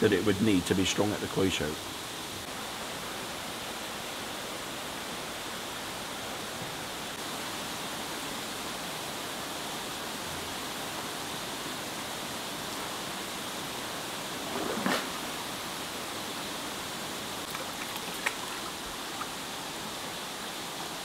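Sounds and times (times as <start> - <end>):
rush of circulating water: 0.0 - 21.0.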